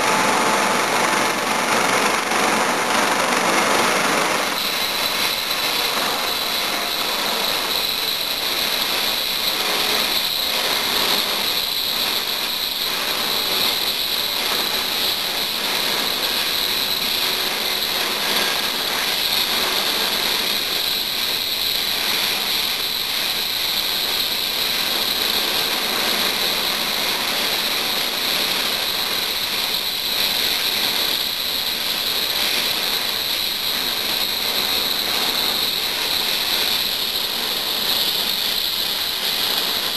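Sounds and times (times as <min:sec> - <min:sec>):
helicopter engines and rotors: 0:00.0 - 0:39.9
high-pitched turbine whine: 0:00.0 - 0:39.9.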